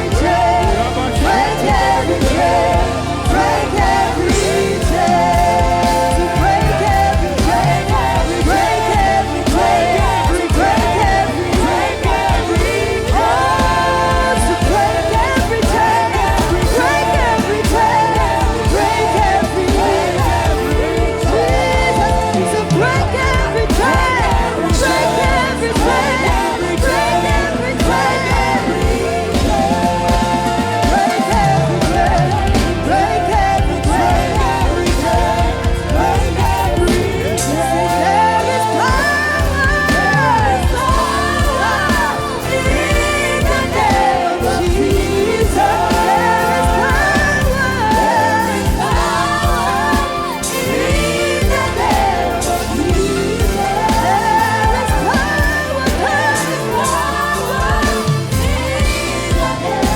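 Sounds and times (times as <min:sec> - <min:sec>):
worship band playing with singing: 0:00.0 - 0:59.9.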